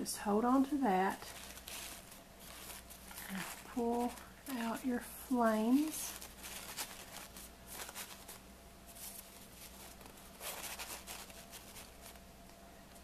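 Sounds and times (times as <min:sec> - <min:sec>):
faint steady hum: 0:00.0 - 0:13.0
paper napkins rustling: 0:00.6 - 0:13.0.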